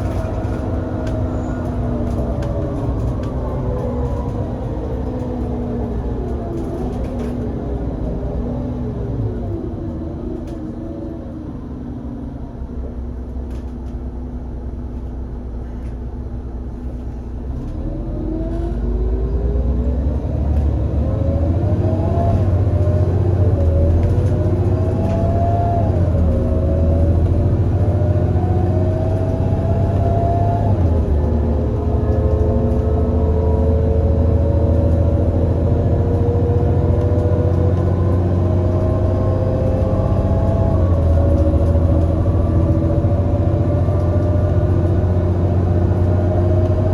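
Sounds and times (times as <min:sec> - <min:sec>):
bus engine accelerating: 0:00.0 - 0:46.9.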